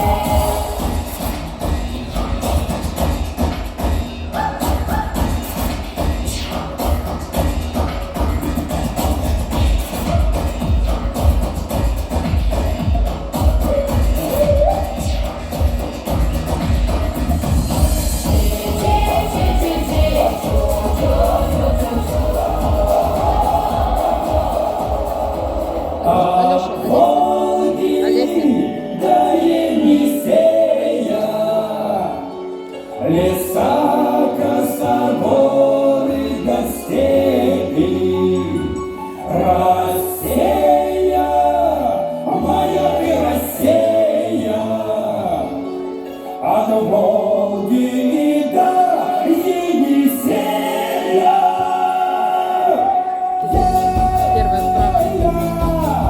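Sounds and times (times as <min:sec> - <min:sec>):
song with choir singing: 0:00.0 - 0:56.0.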